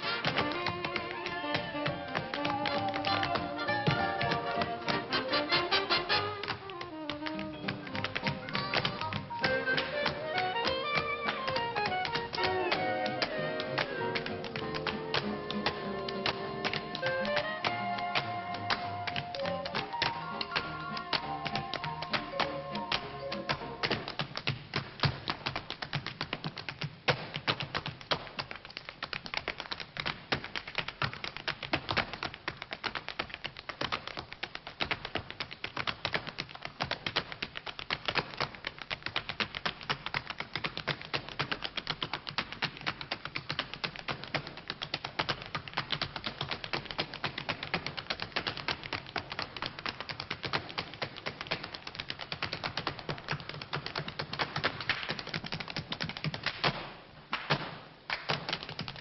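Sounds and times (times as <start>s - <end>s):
tap shoes on hard floor: 0.0s - 59.0s.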